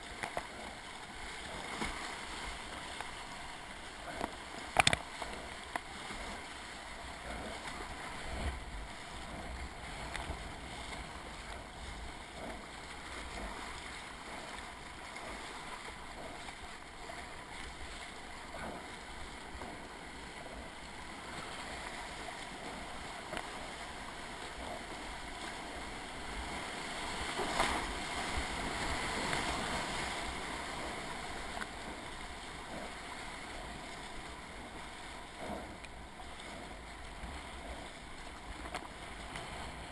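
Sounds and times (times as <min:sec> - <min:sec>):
paddle blades dipping in water: 0:00.0 - 0:39.9.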